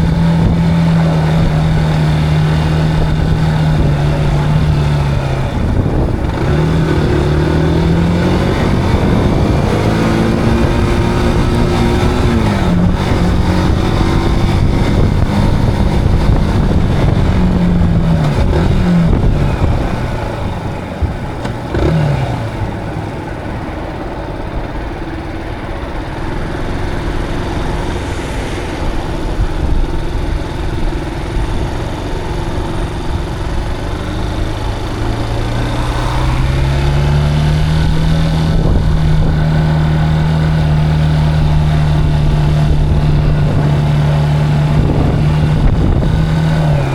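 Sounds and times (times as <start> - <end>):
motorcycle engine while riding: 0.0 - 46.9.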